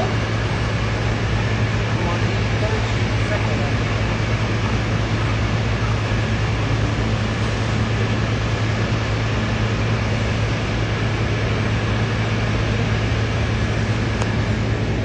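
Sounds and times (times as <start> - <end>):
constant noise wash: 0.0 - 15.0
low mechanical hum: 0.0 - 15.0.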